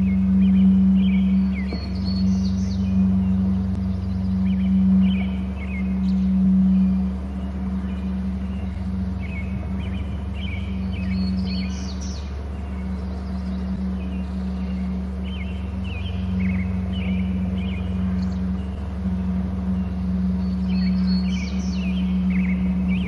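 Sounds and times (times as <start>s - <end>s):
bird chirps: 0.0s - 23.0s
steady low hum: 0.0s - 23.0s.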